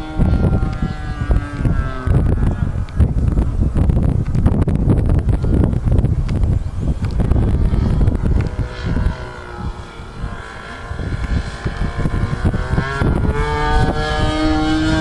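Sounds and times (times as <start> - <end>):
model aircraft engine buzzing: 0.0 - 15.0
wind gusts on microphone: 0.0 - 15.0.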